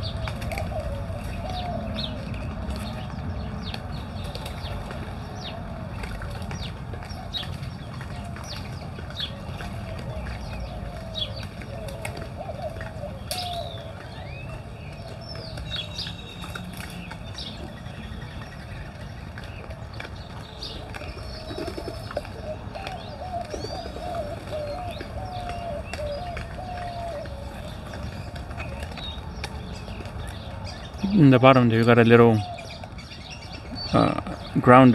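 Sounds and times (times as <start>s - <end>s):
birds chirping and whistling: 0.0s - 34.9s
doves cooing: 0.0s - 34.9s.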